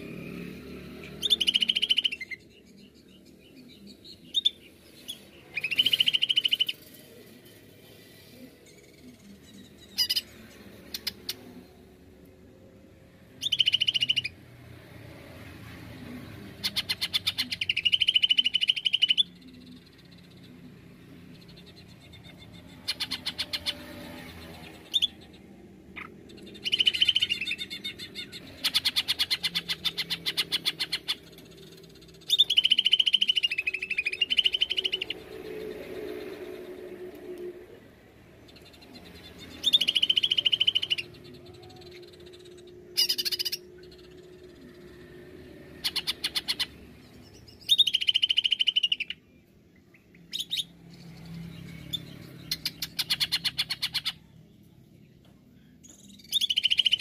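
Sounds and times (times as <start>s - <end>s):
bird singing rapid rattling trills: 0.0s - 8.0s, 13.3s - 14.6s, 16.6s - 37.1s, 38.1s - 54.6s, 55.8s - 57.0s.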